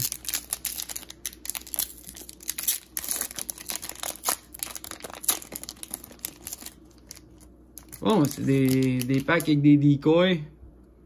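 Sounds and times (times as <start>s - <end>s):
plastic wrapper crinkling and tearing: 0.0s - 9.5s.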